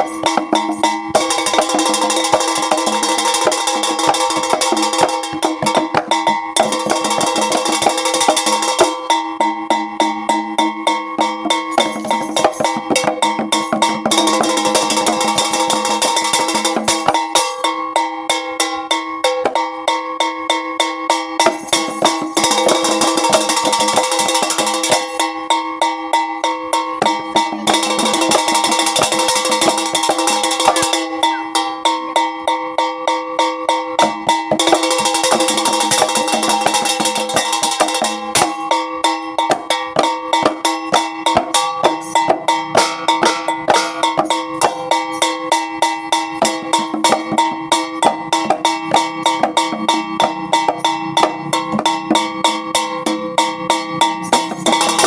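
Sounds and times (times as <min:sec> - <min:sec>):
drum and percussion strokes: 0:00.0 - 0:55.0.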